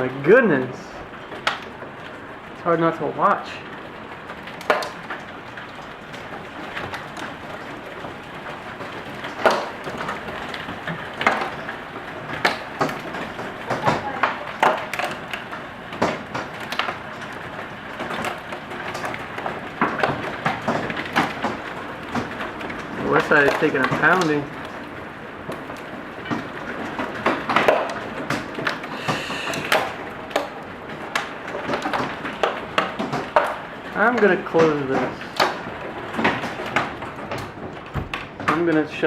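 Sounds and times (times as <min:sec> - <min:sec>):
hailstones knocking hard surfaces: 0:00.0 - 0:39.0
hiss of falling hail: 0:00.0 - 0:39.0.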